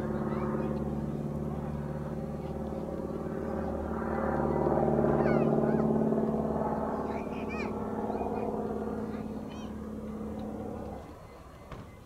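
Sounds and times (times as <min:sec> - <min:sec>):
propeller aircraft flying overhead: 0:00.0 - 0:12.0.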